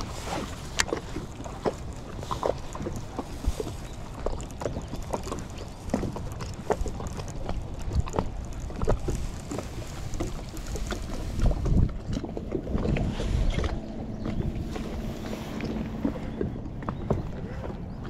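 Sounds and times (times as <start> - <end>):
waves slapping boat hull: 0.0 - 18.0
wind buffeting microphone: 0.0 - 18.0.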